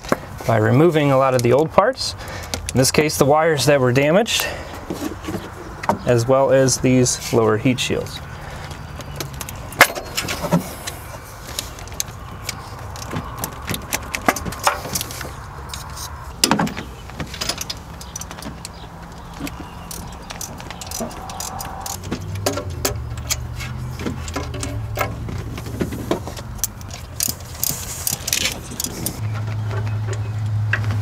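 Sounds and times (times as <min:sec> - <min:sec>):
parts clicking and rattling: 0:01.2 - 0:03.2, 0:08.0 - 0:31.0.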